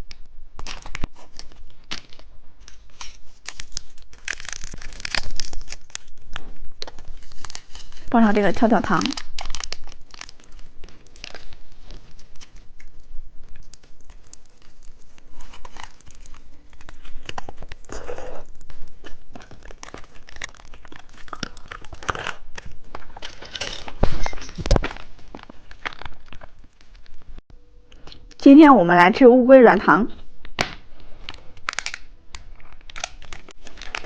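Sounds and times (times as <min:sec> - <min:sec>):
plastic packaging crinkling and tearing: 0:00.0 - 0:27.3, 0:30.4 - 0:34.0.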